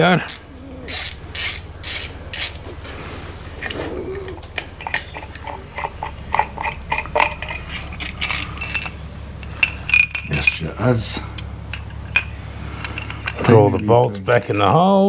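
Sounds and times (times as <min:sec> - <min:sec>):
small metal parts clinking: 0:00.2 - 0:02.6, 0:03.6 - 0:15.0.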